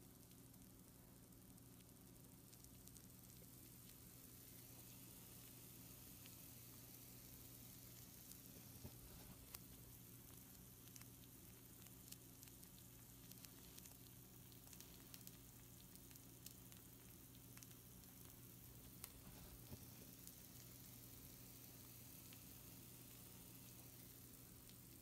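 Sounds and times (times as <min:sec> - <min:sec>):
food sizzling on baking sheet: 0:01.4 - 0:25.0.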